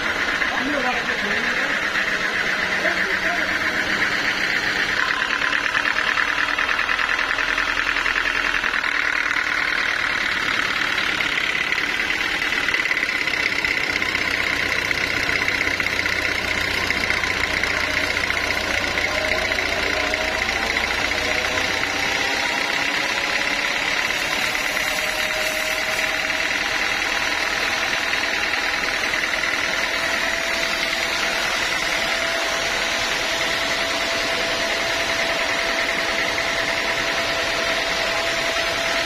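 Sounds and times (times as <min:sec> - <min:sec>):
sawmill machinery droning: 0:00.0 - 0:39.0.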